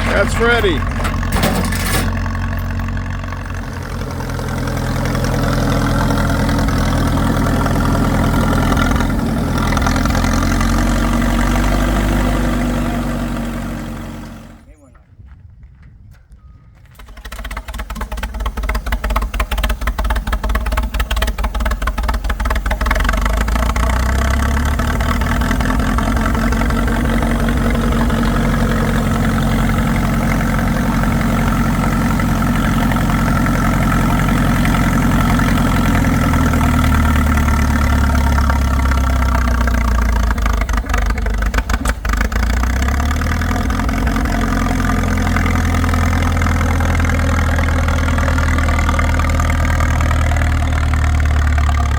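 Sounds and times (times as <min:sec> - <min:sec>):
old tractor engine running: 0:00.0 - 0:14.7, 0:16.8 - 0:51.9.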